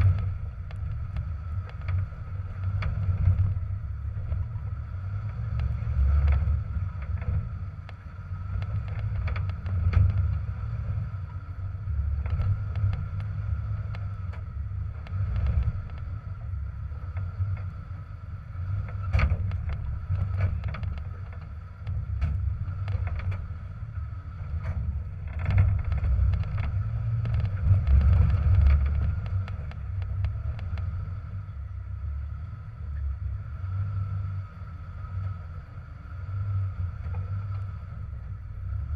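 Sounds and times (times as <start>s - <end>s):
engine rumbling at low speed: 0.0s - 38.9s.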